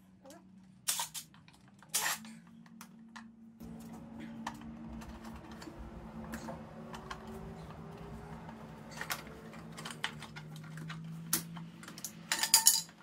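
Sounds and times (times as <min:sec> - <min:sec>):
steady low hum: 0:02.2 - 0:12.9.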